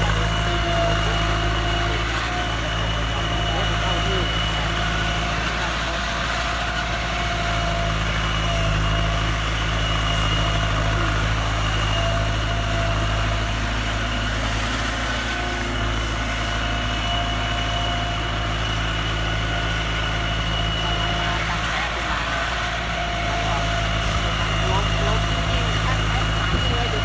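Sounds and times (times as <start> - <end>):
tiller engine running steadily: 0.0 - 27.0.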